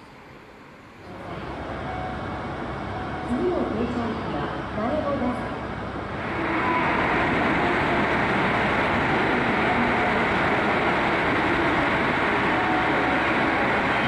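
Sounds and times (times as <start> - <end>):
diesel train engines idling: 0.0 - 14.0.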